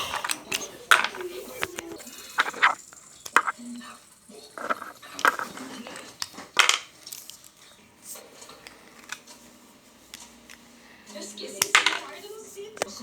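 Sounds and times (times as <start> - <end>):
plastic game pieces clattering: 0.0 - 9.5, 11.4 - 13.0.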